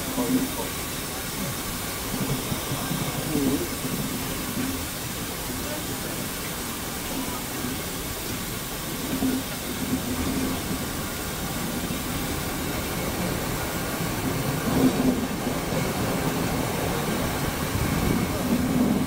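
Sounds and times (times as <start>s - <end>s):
train rolling on tracks: 0.0s - 19.0s.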